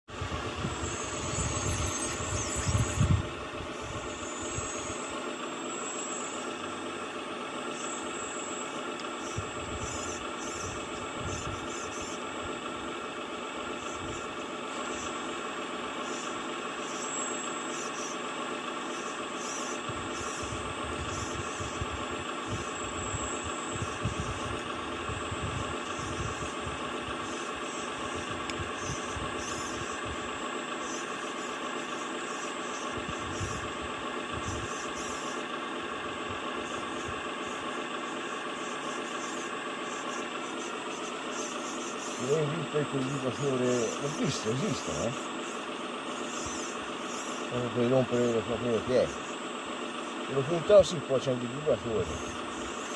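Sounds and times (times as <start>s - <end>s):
heavy diesel engine running: 0.1s - 52.9s.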